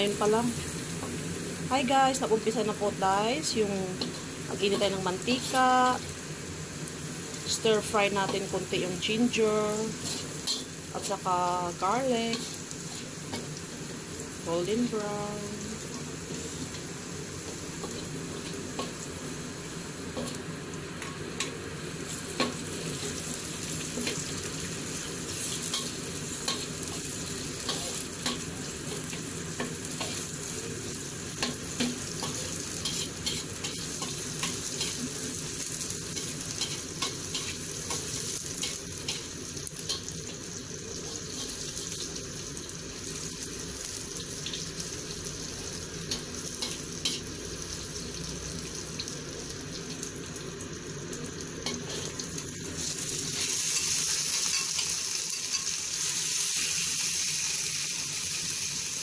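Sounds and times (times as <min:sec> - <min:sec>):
garlic sizzling in oil: 0:00.0 - 0:59.0.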